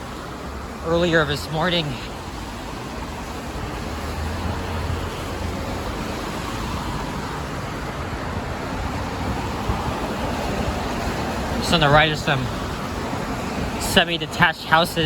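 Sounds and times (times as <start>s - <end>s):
low traffic rumble: 0.0s - 15.0s
tyres hissing on wet street: 0.0s - 15.0s.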